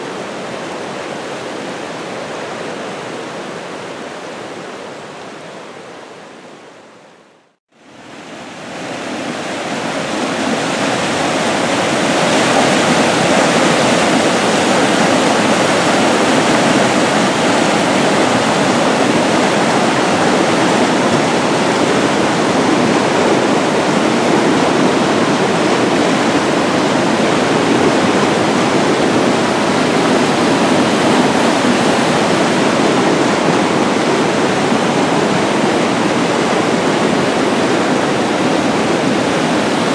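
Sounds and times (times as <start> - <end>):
brook rushing in whitewater torrent: 0.0 - 6.6, 7.8 - 39.9.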